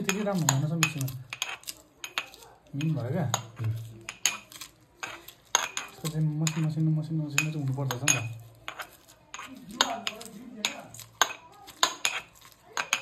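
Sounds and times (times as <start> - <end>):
metal pestle pounding in mortar: 0.0 - 13.0.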